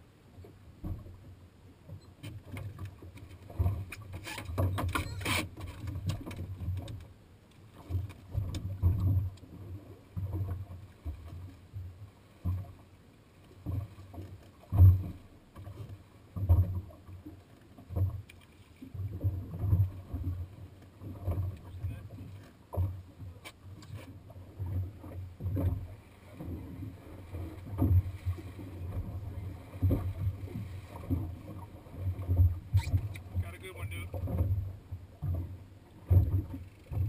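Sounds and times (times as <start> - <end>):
waves slapping against boat hull: 0.4 - 37.0.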